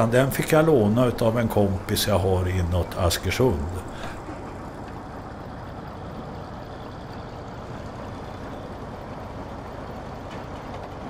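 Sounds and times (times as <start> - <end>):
crane engine running: 0.0 - 11.0
hydraulic crane moving: 0.0 - 11.0.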